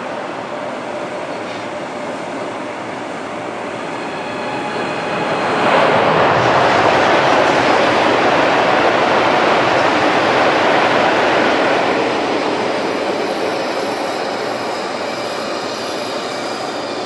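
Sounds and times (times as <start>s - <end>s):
steady train rumble: 0.0s - 17.0s
train rushing past: 0.0s - 17.0s.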